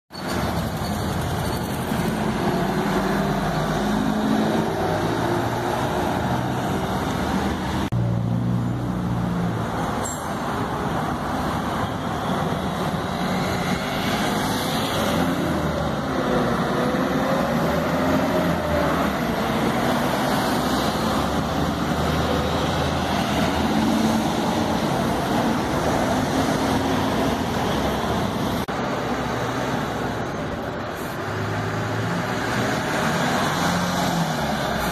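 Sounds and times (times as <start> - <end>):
traffic driving past: 0.2 - 34.9.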